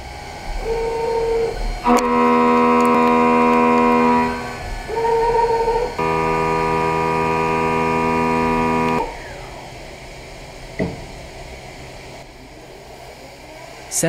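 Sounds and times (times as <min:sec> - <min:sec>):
milling machine cutting whine: 0:00.0 - 0:14.0
quiet machine noise: 0:00.0 - 0:14.0.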